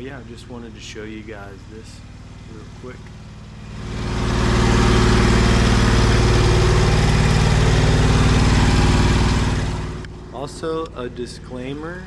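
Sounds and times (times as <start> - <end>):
mower engine running: 0.0 - 12.0.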